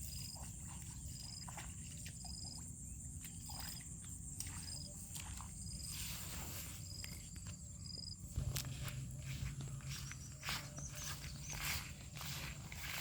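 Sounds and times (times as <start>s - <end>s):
insect chirp: 0.0s - 13.0s
insects buzzing: 0.0s - 13.0s
low hum: 2.5s - 13.0s.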